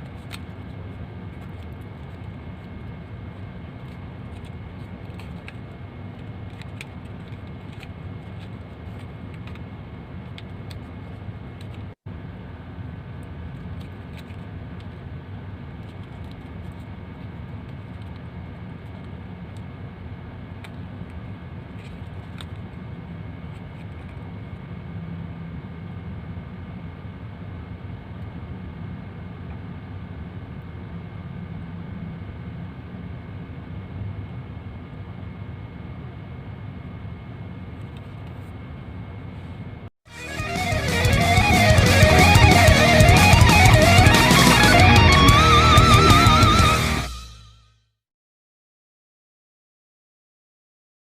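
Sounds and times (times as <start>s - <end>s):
faint hum: 0.0s - 47.6s.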